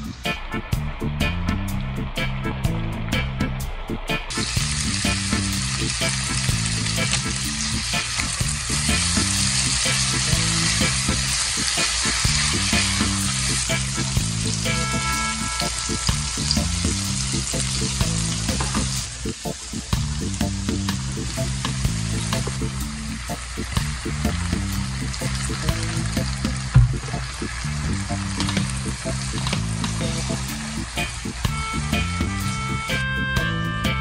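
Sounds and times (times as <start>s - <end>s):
background music: 0.0s - 34.0s
vegetables sizzling in a pan: 4.3s - 33.2s.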